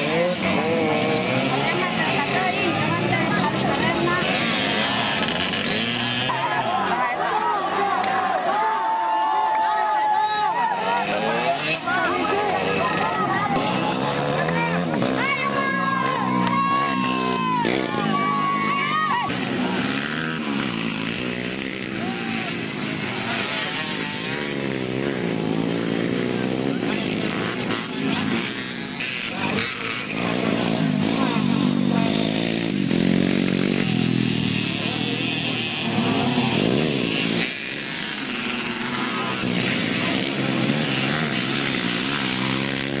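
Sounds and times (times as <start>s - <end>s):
motorbike engines revving: 0.0s - 43.0s.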